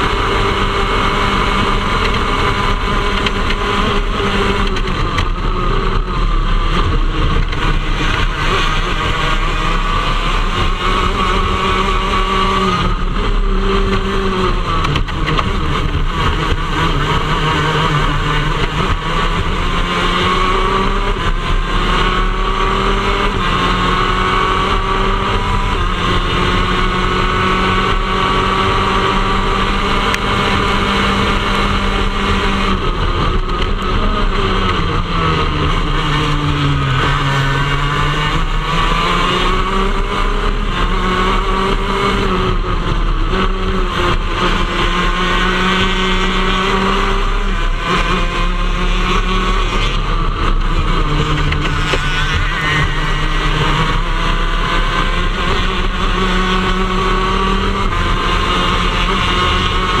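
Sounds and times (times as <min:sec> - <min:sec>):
kart engine revving high: 0:00.0 - 1:00.0.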